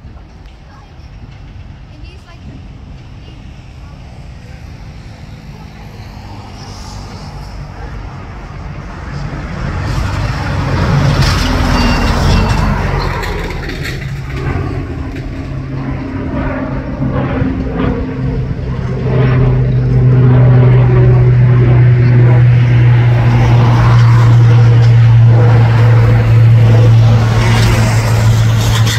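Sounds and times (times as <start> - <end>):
propeller airliner flying overhead: 0.0 - 28.9.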